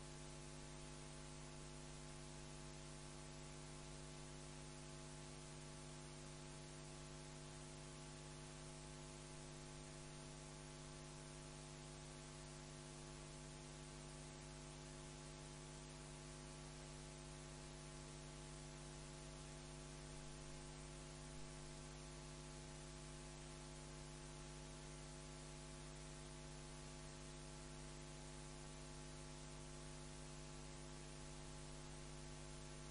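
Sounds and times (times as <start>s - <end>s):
electrical mains hum: 0.0s - 32.9s.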